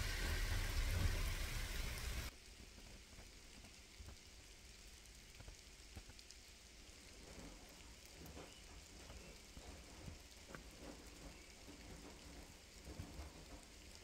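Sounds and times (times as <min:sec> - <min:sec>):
faint rain patter: 0:00.0 - 0:14.0
heavy rain: 0:00.0 - 0:14.0.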